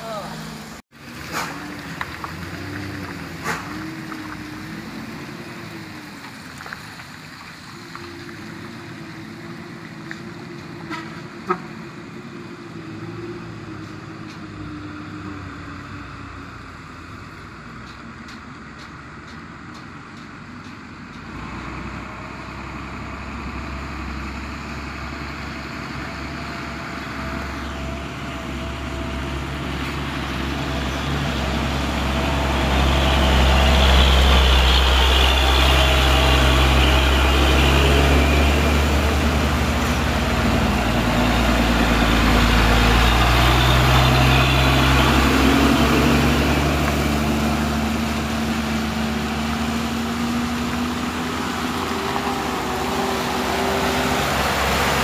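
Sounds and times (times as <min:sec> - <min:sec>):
diesel trucks running: 0:00.0 - 0:55.0
truck diesel engine approaching: 0:00.0 - 0:55.0.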